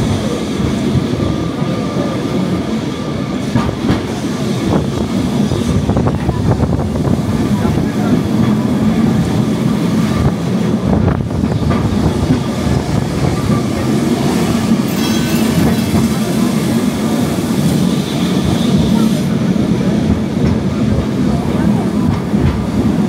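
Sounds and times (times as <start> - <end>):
tram wheels and motor rumbling: 0.0 - 23.0.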